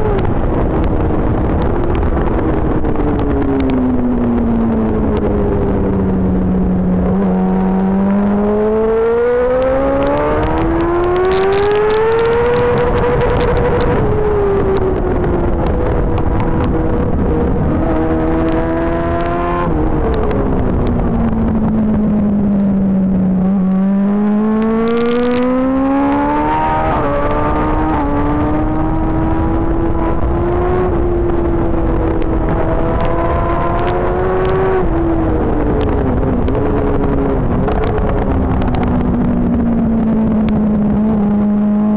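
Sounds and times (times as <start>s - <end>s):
motorbike engine revving: 5.4s - 41.9s.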